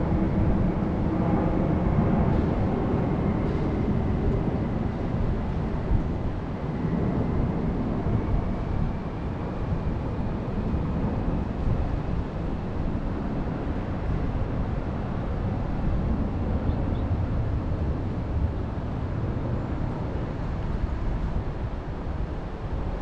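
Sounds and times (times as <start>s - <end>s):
wind blowing over microphone: 0.0s - 23.0s.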